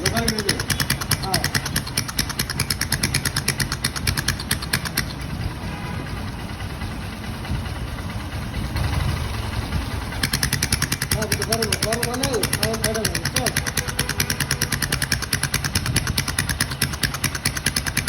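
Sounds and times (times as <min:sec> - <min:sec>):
engine running: 0:00.0 - 0:18.0
rhythmic engine ticking: 0:00.0 - 0:18.0.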